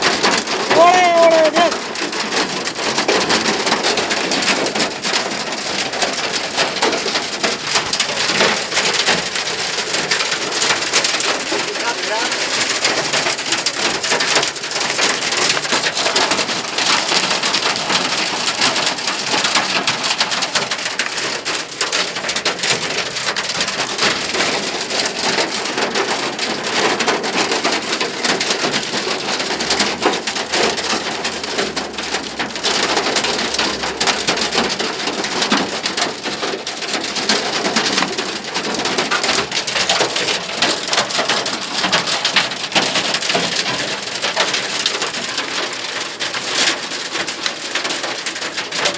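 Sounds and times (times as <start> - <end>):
heavy rain with hail: 0.0 - 48.9.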